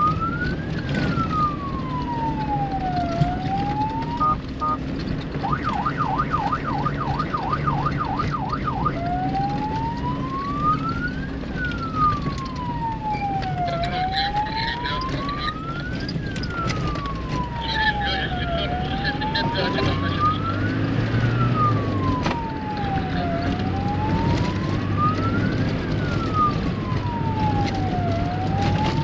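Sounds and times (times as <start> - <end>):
electronic vehicle siren: 0.0 - 29.0
vehicle engine running: 0.0 - 29.0.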